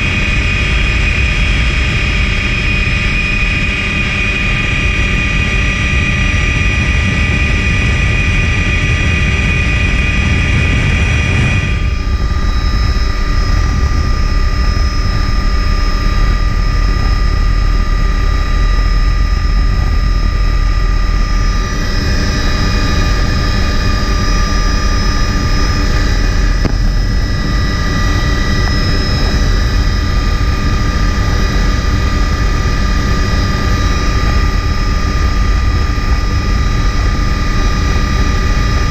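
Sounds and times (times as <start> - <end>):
helicopter rotor and engine drone: 0.0 - 38.9
whining tones: 0.0 - 38.9.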